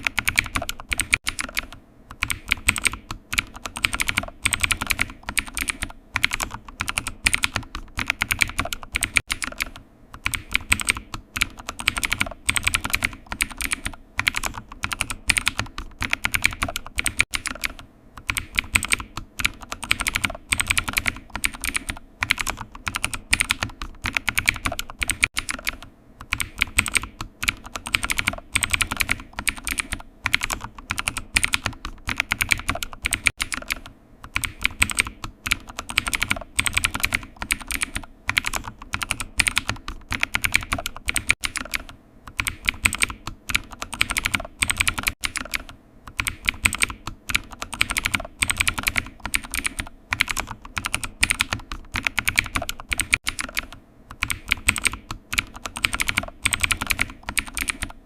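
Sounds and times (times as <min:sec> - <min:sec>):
keyboard typing clicks: 0:00.0 - 0:58.0.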